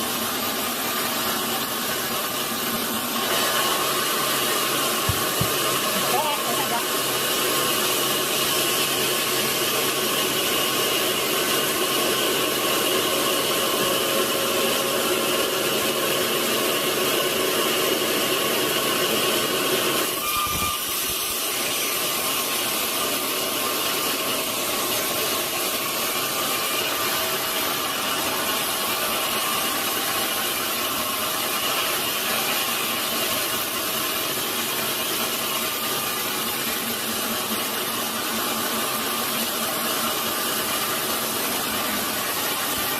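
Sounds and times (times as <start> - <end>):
sawmill blade whining: 0.0 - 42.9.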